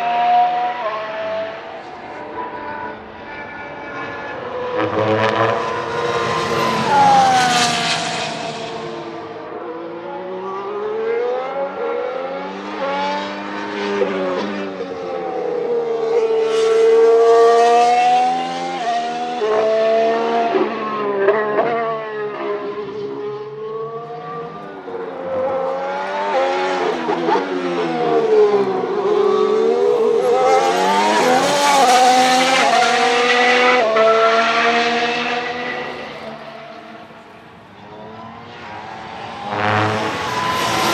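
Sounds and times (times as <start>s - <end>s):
racing car engine revving: 3.9s - 37.3s, 37.9s - 40.9s.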